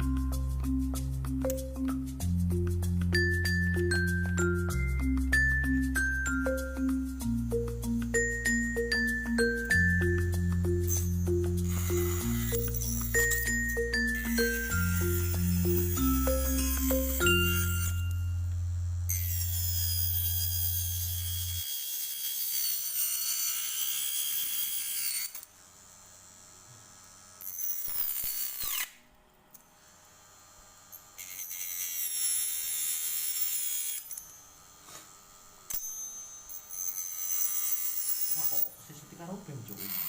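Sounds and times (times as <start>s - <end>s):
small electric motor whining: 0.0s - 40.0s.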